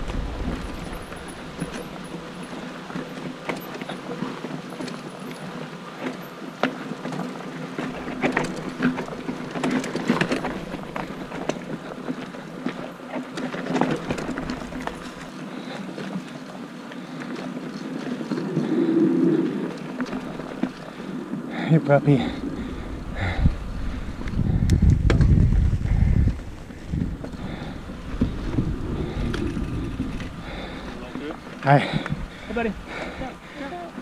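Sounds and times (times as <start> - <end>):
bike clicks and rattles: 0.0 - 34.0
bike tyres rolling on dirt: 0.0 - 34.0.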